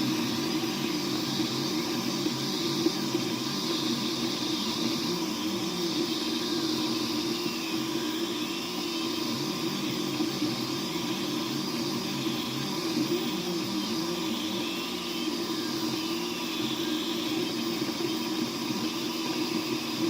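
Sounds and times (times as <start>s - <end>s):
printer motors humming: 0.0s - 20.0s.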